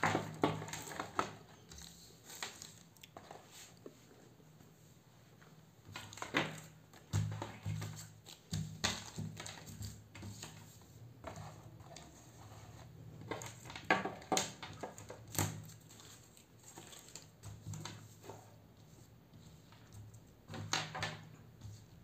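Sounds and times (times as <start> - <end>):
paper and plastic rustling: 0.0 - 22.0.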